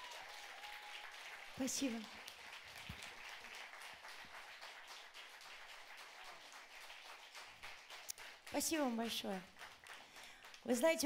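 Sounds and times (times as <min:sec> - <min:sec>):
audience applause: 0:00.0 - 0:10.7.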